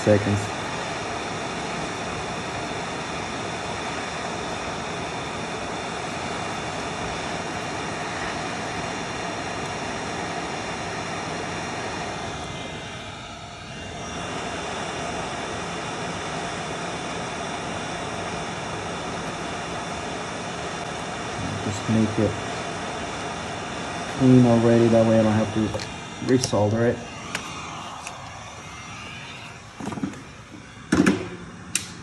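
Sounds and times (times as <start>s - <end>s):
hot air blowing: 0.0s - 32.0s.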